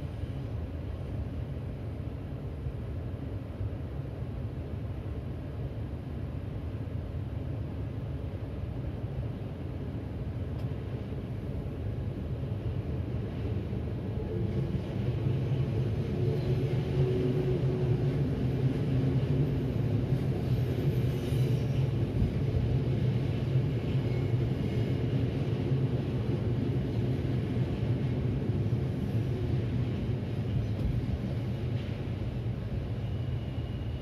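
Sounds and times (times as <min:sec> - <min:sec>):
electric train rumbling past: 0:00.0 - 0:34.0.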